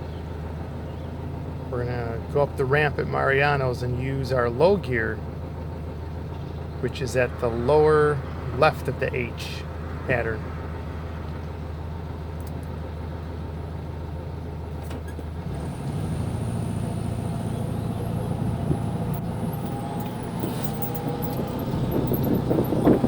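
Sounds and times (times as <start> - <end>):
car engine idling and pulling away: 0.0 - 23.0.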